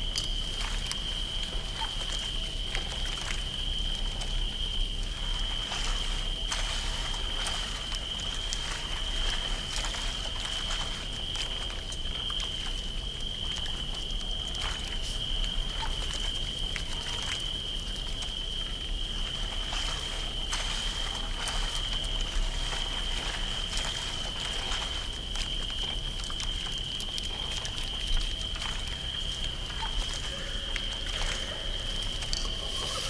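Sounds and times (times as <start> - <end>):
crackles and soft creaks: 0.0 - 33.0
high insect trill: 0.0 - 33.0
water drips: 0.0 - 33.0.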